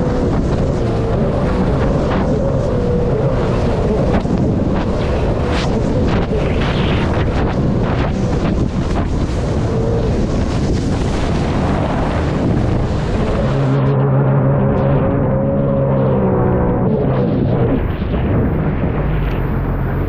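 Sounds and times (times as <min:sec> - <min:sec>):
jet ski engine: 0:00.0 - 0:20.0
wind buffeting microphone: 0:00.0 - 0:20.0.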